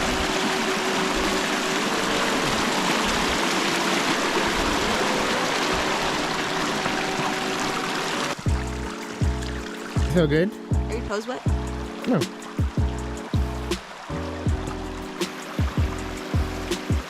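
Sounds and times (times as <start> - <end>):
rushing stream water: 0.0 - 17.0.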